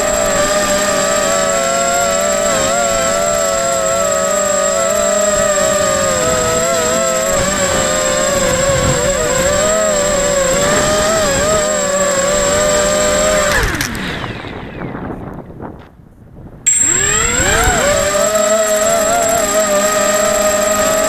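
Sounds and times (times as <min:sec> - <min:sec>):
drone motors whining: 0:00.0 - 0:15.6, 0:16.7 - 0:21.0.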